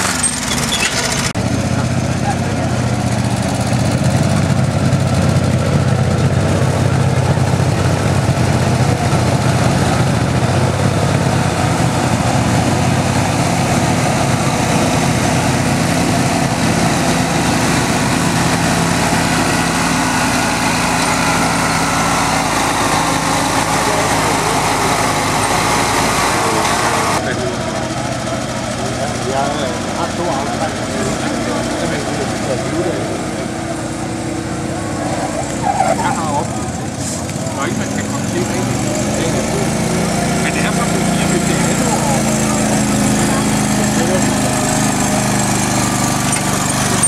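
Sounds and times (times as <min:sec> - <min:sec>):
small tractor engine running hard: 0:00.0 - 0:47.0.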